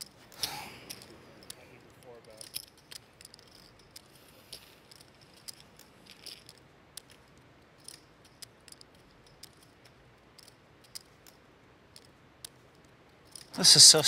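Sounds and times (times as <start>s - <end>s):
poker chips clicking: 0.0s - 13.8s.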